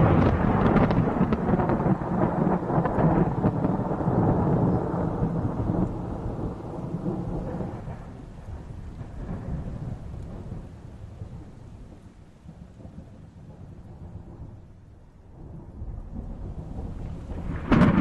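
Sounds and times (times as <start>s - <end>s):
thunder crackles: 0.0s - 18.0s
thunder rumbling: 0.0s - 18.0s.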